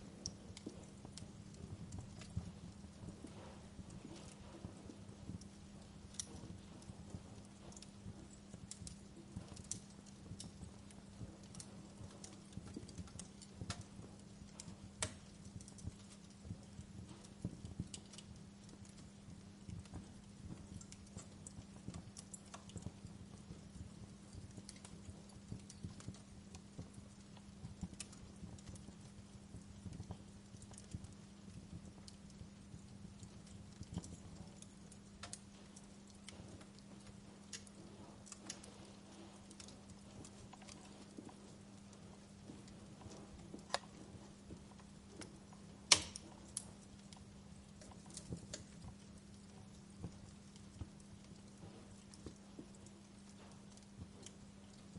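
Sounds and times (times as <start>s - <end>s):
low steady hum: 0.0s - 54.9s
wood fire crackling: 0.0s - 54.9s.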